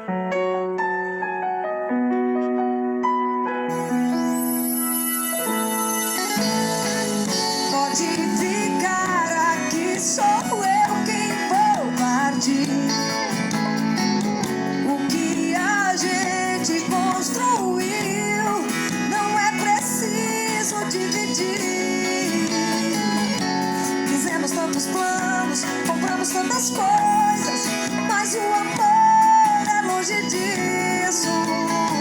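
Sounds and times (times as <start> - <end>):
acoustic guitar and band: 3.7 - 32.0.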